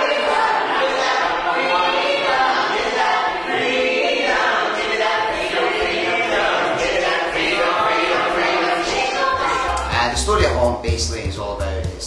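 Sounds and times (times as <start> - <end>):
cast singing in chorus: 0.0 - 10.2.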